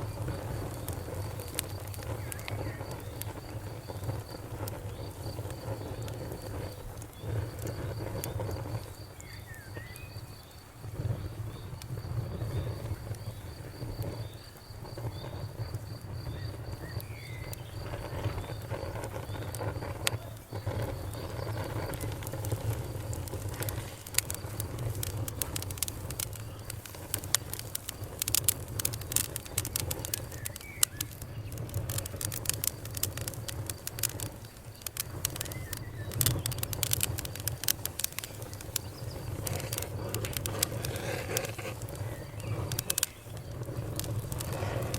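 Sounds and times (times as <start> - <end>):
fire crackling and popping: 0.0 - 44.9
fire rumbling: 0.0 - 44.9.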